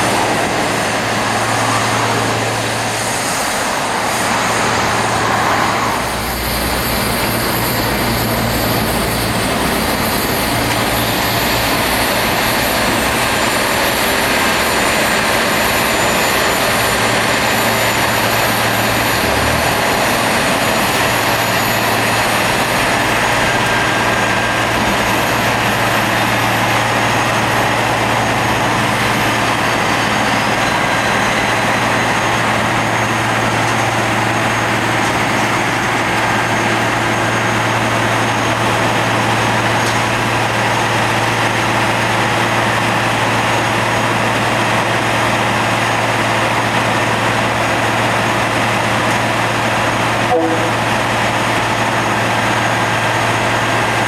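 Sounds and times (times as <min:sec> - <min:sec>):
grinding wheels hissing on rail: 0:00.0 - 0:54.0
low engine drone: 0:00.0 - 0:54.0.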